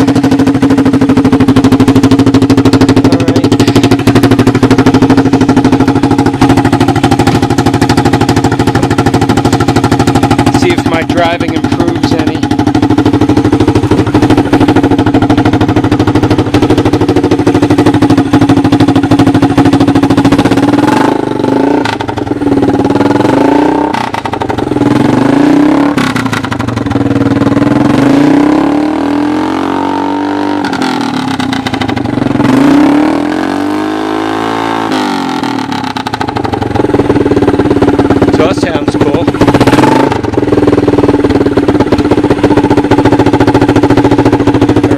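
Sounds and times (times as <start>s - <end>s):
engine running and revving: 0.0s - 44.9s.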